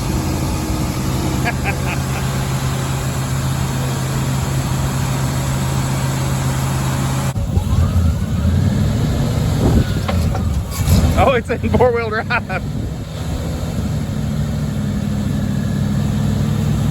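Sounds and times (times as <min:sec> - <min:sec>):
truck engine idling: 0:00.0 - 0:16.9.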